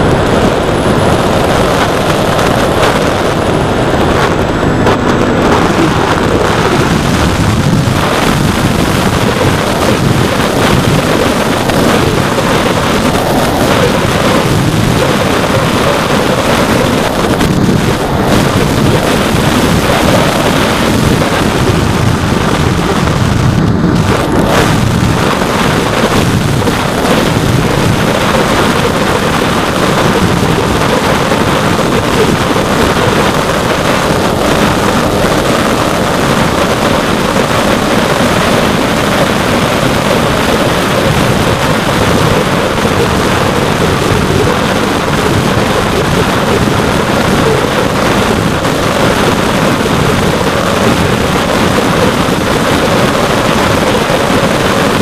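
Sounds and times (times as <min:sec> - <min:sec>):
wind rush: 0:00.0 - 0:55.0.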